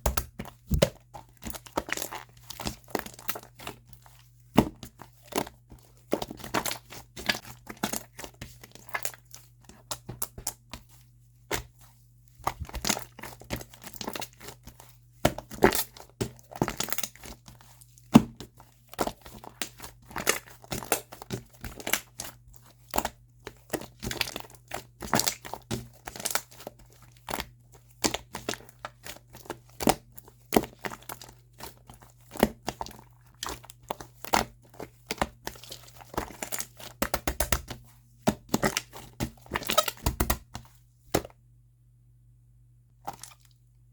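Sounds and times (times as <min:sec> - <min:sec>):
hands squishing sticky slime: 0:00.0 - 0:41.4, 0:43.0 - 0:43.6.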